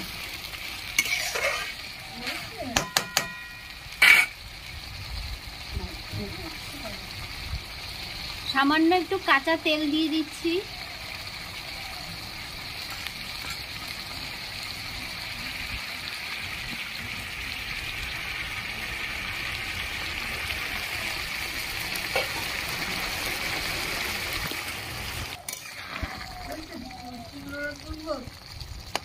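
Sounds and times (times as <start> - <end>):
curry sizzling and bubbling: 0.0 - 29.0.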